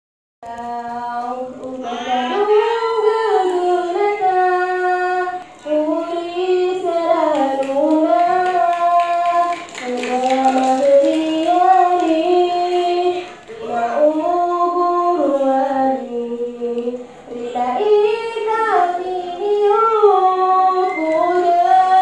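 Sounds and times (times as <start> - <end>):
woman singing unaccompanied: 0.4 - 22.0.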